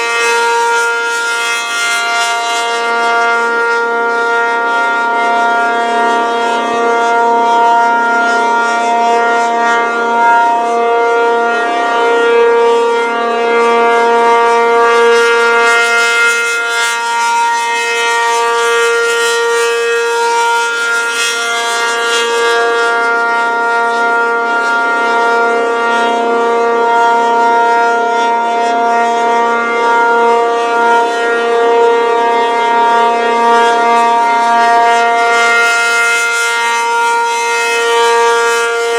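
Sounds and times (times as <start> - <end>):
tornado siren wailing: 0.0 - 38.9.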